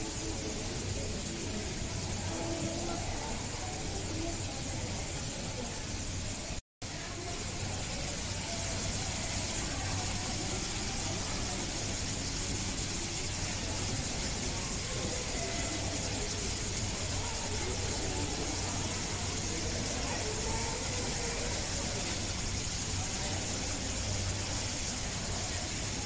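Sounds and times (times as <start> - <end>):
even hiss: 0.0 - 26.0
faint murmur of distant voices: 0.0 - 26.0.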